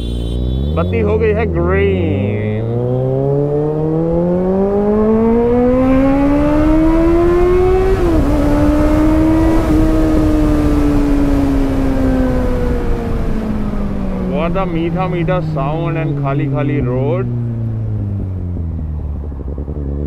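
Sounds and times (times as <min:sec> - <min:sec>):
motorcycle engine accelerating: 0:00.0 - 0:20.0
wind rushing over microphone: 0:01.8 - 0:20.0.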